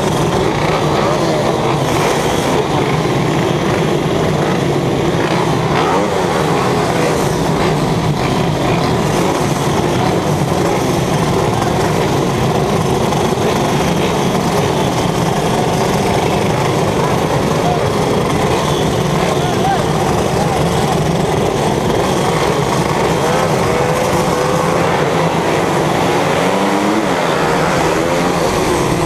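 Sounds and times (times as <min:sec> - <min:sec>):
racing engine revving: 0:00.0 - 0:29.0.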